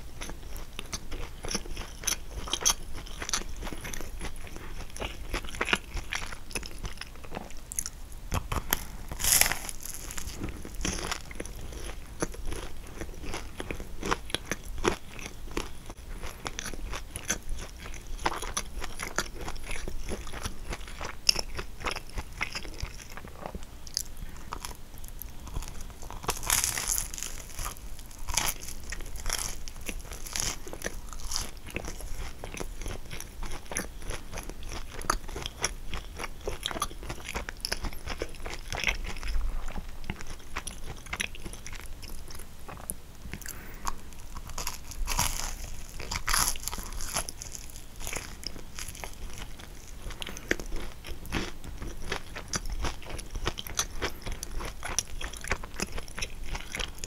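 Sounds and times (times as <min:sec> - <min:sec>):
flaky pastry crunching: 0:00.1 - 0:57.0
moist chewing: 0:00.2 - 0:57.0.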